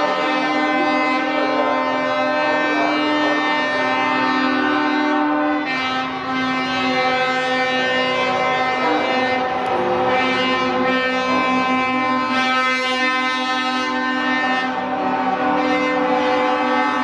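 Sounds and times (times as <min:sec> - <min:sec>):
truck air horns blowing: 0:00.0 - 0:17.0.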